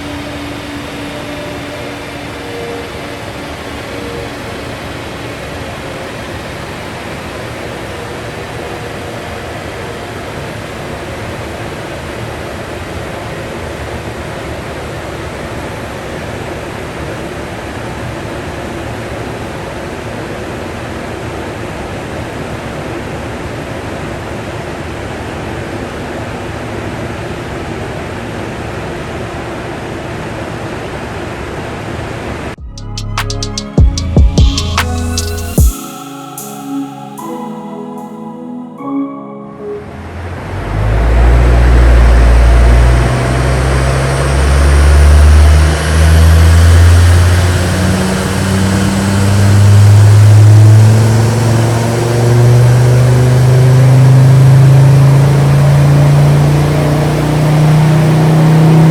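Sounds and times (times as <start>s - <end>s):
cooling fan blowing air: 0.0s - 32.6s, 40.0s - 58.9s.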